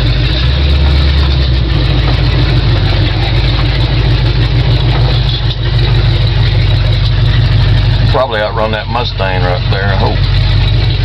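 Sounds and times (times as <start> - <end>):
engine running through open headers: 0.0 - 11.0.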